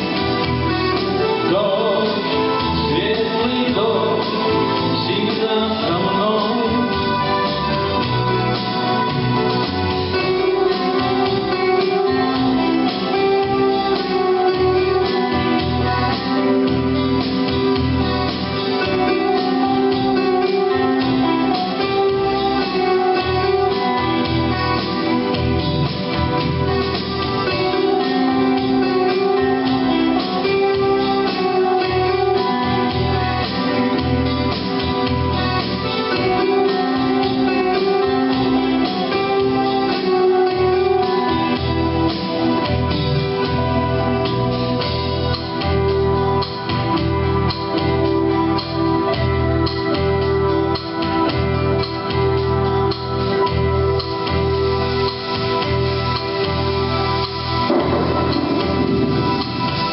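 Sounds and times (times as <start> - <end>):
guitar: 0.0 - 59.9
keyboard: 0.0 - 59.9
pulsing bass: 2.2 - 39.9, 40.5 - 59.9.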